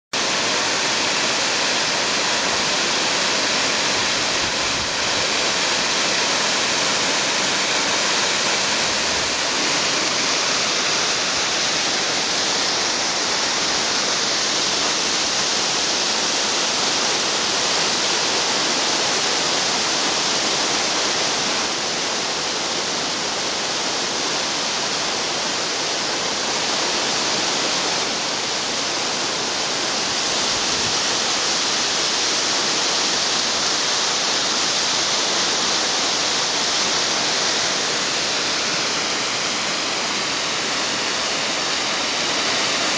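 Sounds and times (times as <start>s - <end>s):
waterfall pouring over rocks: 0.2s - 42.9s.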